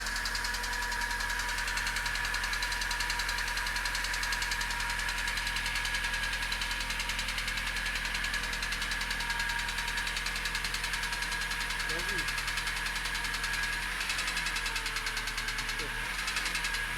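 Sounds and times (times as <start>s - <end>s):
petrol engine idling with knock: 0.0s - 16.9s.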